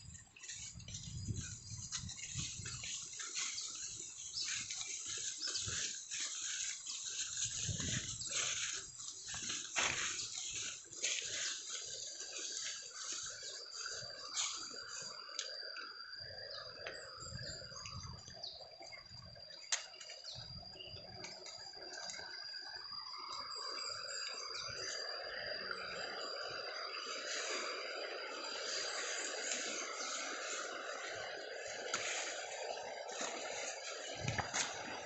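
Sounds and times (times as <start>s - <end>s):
high-pitched whine: 0.0s - 35.0s.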